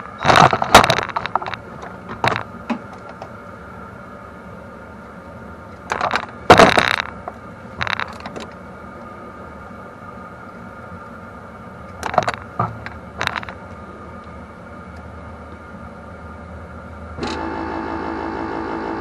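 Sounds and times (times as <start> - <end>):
loud mechanical hum with tones: 0.0 - 19.0
steady background hum: 0.0 - 19.0.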